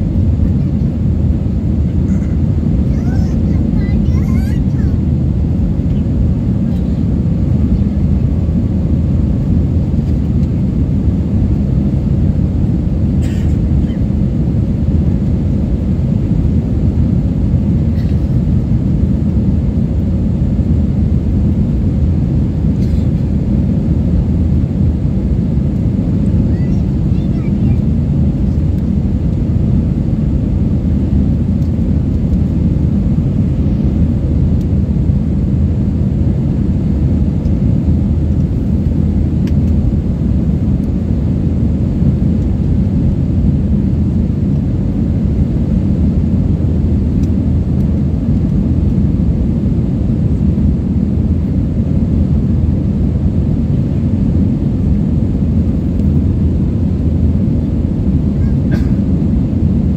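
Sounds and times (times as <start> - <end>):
jet airliner cabin roar: 0.0 - 59.9.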